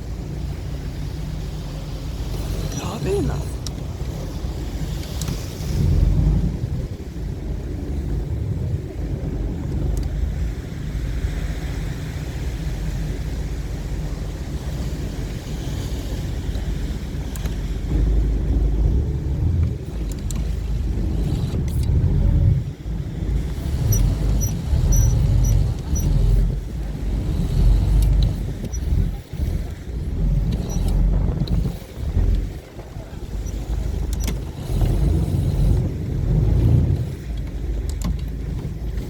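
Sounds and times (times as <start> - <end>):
gusty wind: 0.0 - 39.0
small boat engine rumble: 0.0 - 39.0
water noise: 0.0 - 39.0.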